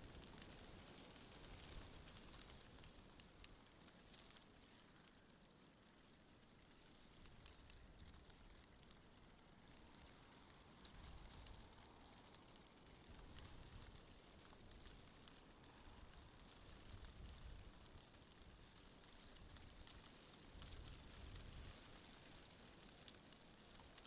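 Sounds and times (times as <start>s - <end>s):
light crackling ticks: 0.0s - 24.0s.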